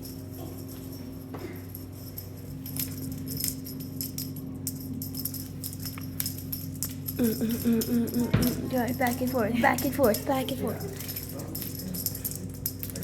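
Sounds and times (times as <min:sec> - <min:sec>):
small metallic jingling and rattling: 0:00.0 - 0:13.0
steady low hum: 0:00.0 - 0:13.0.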